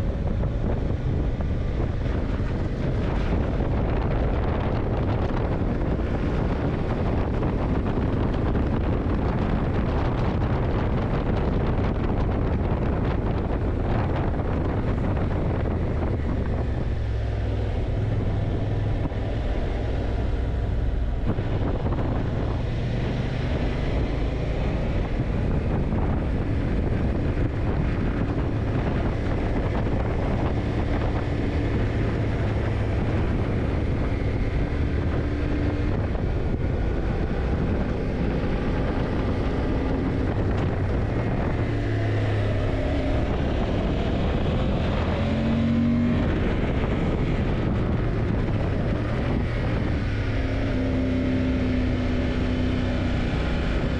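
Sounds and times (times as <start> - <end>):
wind rush: 0.0 - 53.9.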